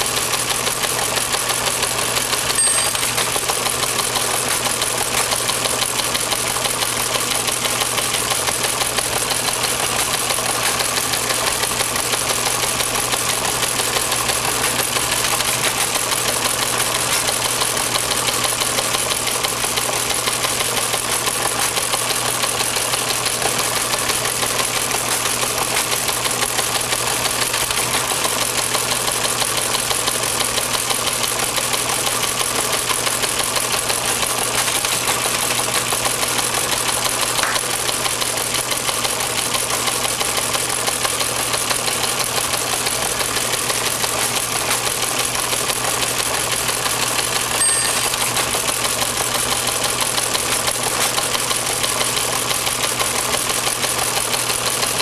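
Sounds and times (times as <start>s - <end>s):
teleprinter clattering: 0.1s - 55.0s.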